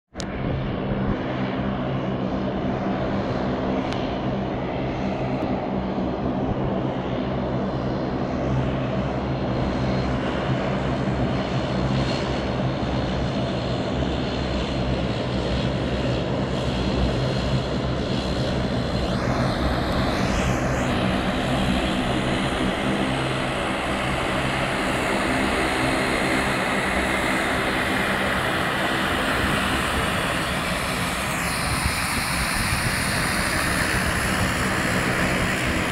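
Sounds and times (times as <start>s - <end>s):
turbine whine: 0.1s - 35.9s
turboprop engines running: 0.1s - 35.9s.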